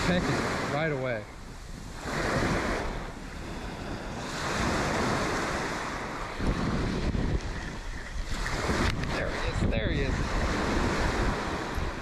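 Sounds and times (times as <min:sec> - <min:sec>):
small waves breaking on shore: 0:00.0 - 0:12.0
wind on microphone: 0:00.0 - 0:12.0.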